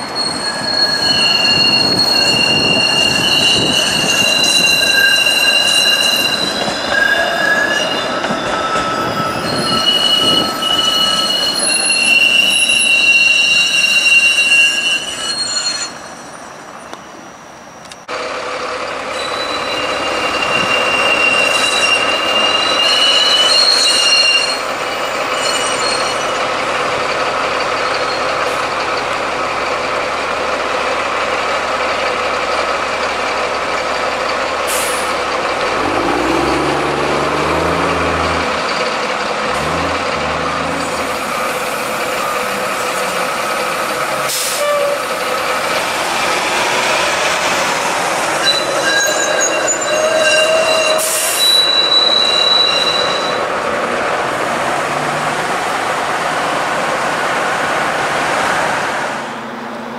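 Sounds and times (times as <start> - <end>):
road traffic: 0.0 - 59.9
streetcar wheels squealing on rails: 0.0 - 59.9.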